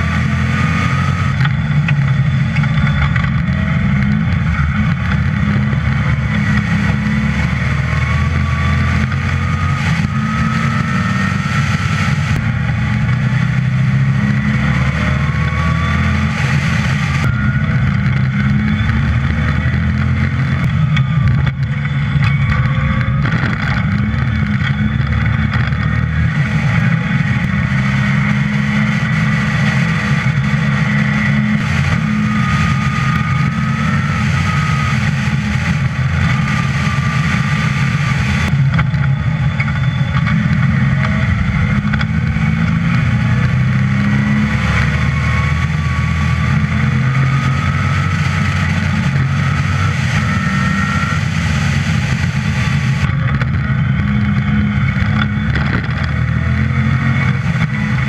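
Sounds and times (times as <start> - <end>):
sports car engine revving: 0.0 - 58.0.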